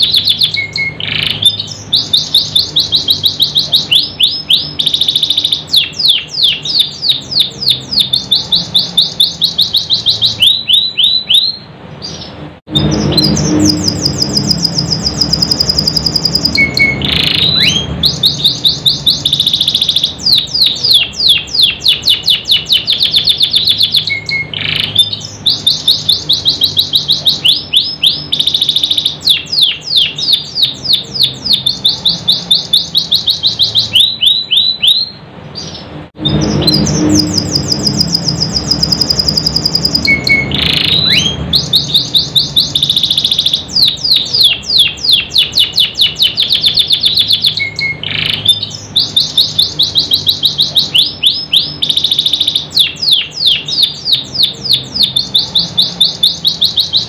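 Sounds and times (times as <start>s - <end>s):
canary trilling: 0.0s - 57.0s
high bird whistle: 0.0s - 57.0s.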